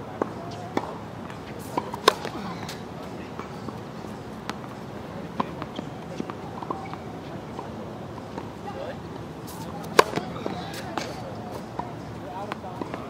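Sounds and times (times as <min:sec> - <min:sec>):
tennis ball bouncing on hard court: 0:00.2 - 0:04.8, 0:05.4 - 0:07.7, 0:09.5 - 0:13.0.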